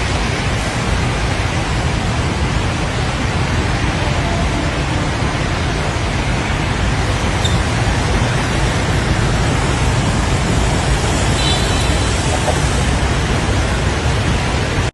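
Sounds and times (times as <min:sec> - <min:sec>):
strong wind buffeting microphone: 0:00.0 - 0:14.9.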